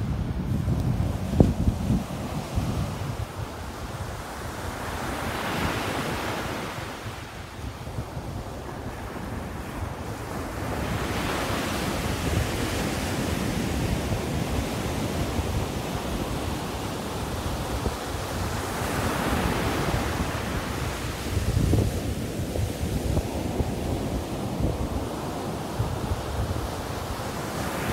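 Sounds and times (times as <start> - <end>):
ocean surf on a sandy beach: 0.0 - 27.9.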